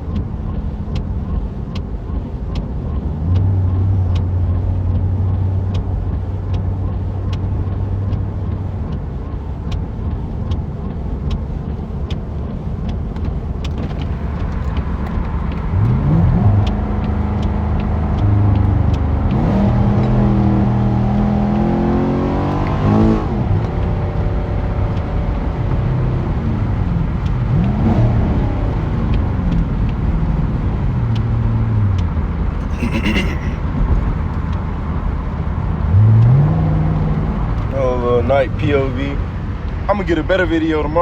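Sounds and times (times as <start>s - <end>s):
road noise: 0.0s - 41.0s
car engine accelerating through gears: 0.1s - 39.9s.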